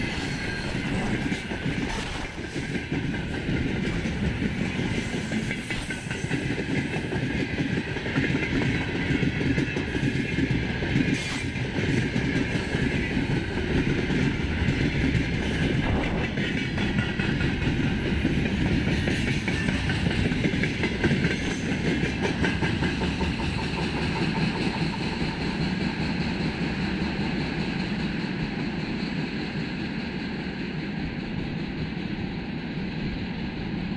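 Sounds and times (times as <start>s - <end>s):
train wheels clattering on rails: 0.0s - 33.9s.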